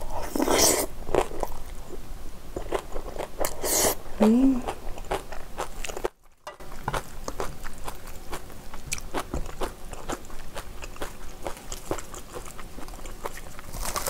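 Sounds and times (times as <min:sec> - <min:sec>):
person chewing: 0:00.0 - 0:01.8, 0:02.6 - 0:14.0.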